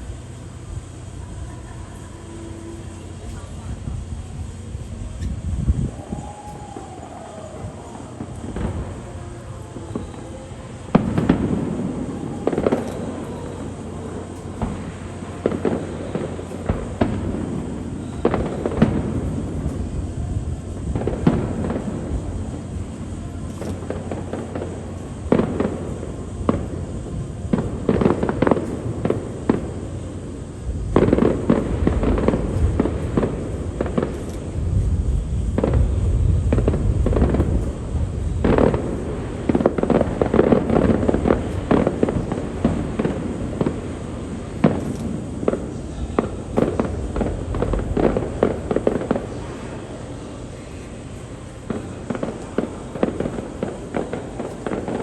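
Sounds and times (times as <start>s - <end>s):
crackling firework volleys: 0.0s - 55.0s
deep rolling rumble: 0.0s - 55.0s
fireworks shells bursting: 0.0s - 55.0s.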